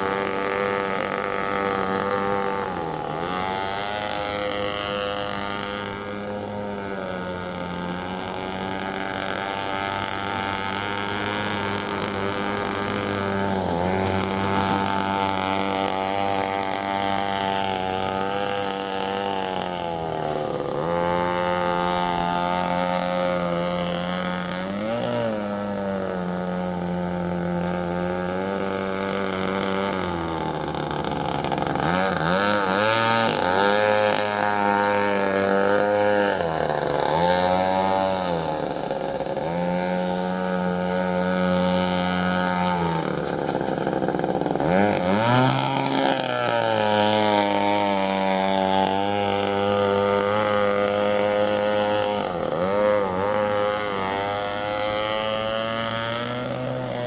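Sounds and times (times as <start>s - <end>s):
two-stroke engine buzzing: 0.0s - 57.0s.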